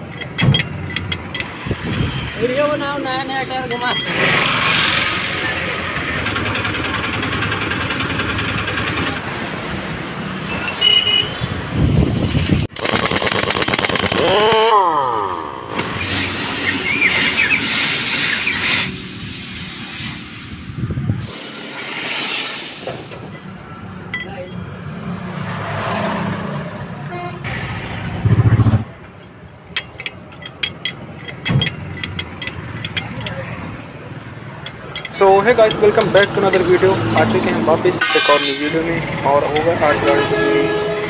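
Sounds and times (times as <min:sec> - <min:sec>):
highway traffic noise: 0:00.0 - 0:41.0.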